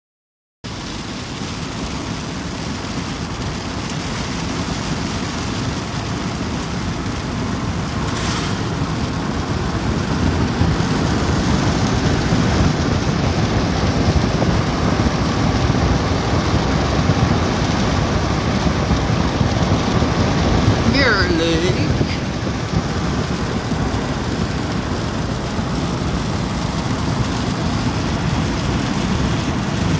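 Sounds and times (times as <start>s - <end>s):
steady rain falling: 0.7s - 29.9s
low rumble: 0.9s - 29.9s.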